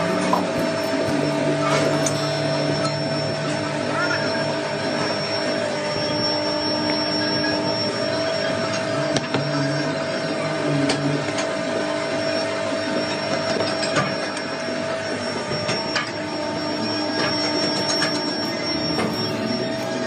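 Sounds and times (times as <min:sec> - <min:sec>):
workshop machinery drone: 0:00.0 - 0:20.0.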